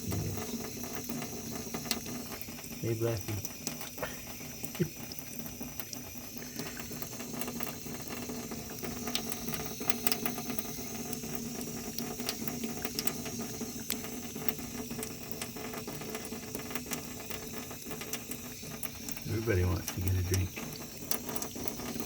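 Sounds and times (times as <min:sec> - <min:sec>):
cat lapping water: 0:00.0 - 0:22.0
faint steady hum: 0:00.0 - 0:22.0
tap running into a sink: 0:00.0 - 0:22.0.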